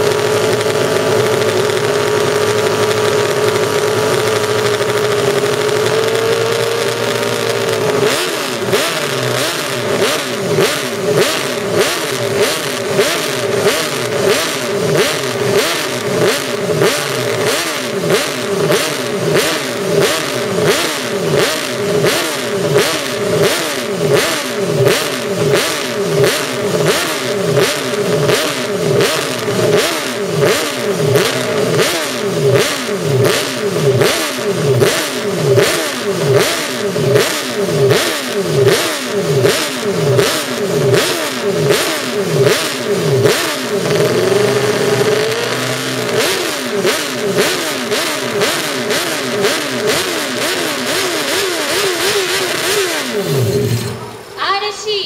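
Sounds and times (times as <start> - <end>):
racing engine revving: 0.0 - 54.6.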